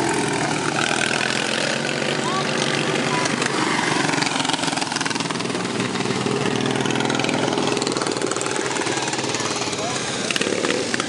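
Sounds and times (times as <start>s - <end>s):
mower engine passing close: 0.0s - 11.0s
racing lawn mower engines: 0.0s - 11.0s.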